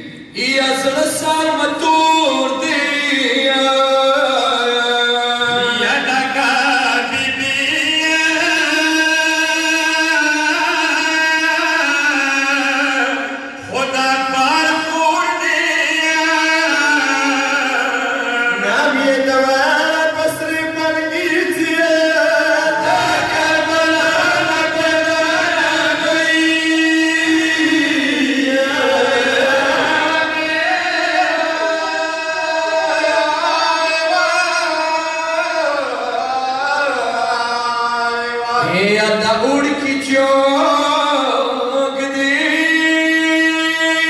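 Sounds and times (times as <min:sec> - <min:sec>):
men chanting a lament: 0:00.0 - 0:44.0.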